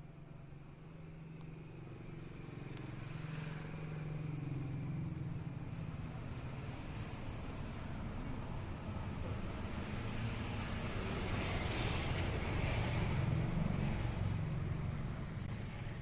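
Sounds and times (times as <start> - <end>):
low mechanical hum: 0.0 - 16.0
broad rushing noise: 1.6 - 16.0.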